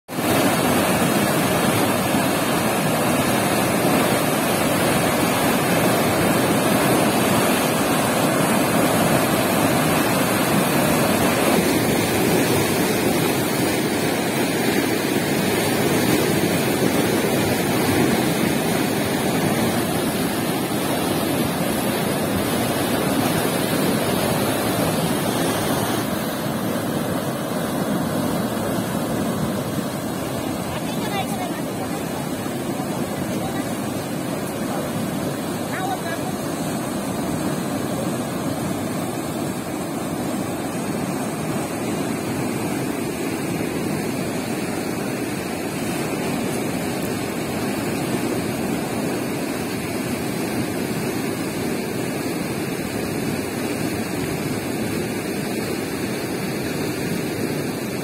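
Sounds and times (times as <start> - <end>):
water rushing from sluice: 0.1 - 58.0.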